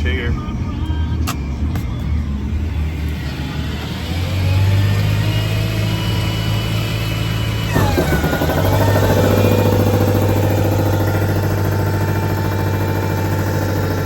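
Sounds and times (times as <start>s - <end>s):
truck engine humming: 0.0s - 14.0s
air compressor whine: 1.6s - 14.0s
compressor mechanical rattle: 2.7s - 14.0s.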